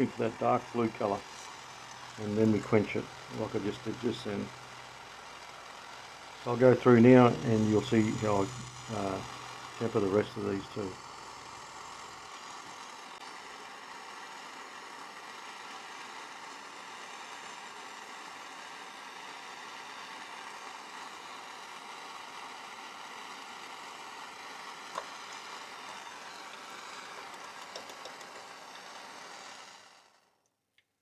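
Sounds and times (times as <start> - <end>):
gas torch flame hissing: 0.0 - 30.4.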